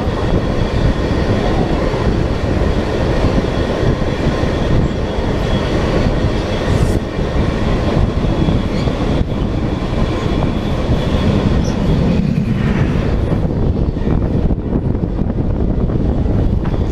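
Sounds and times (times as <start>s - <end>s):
diesel locomotive passing: 0.0s - 16.9s
rushing air: 0.0s - 16.9s
steel wheels rumbling on rail: 0.0s - 16.9s.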